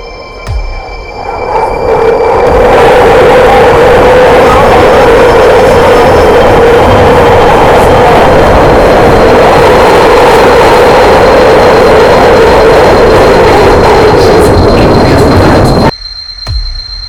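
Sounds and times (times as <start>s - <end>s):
underground train roaring in tunnel: 0.0s - 16.0s.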